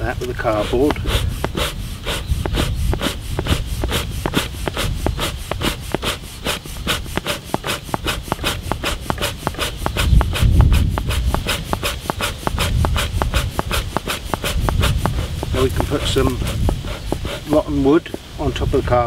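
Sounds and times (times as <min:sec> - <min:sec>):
bee smoker bellows puffing: 0:00.0 - 0:19.0.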